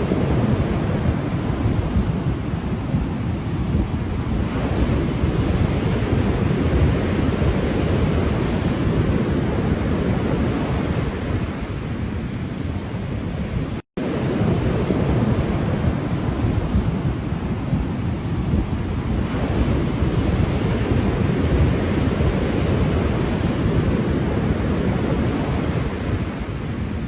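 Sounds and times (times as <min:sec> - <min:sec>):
ocean waves washing in: 0:00.0 - 0:27.0.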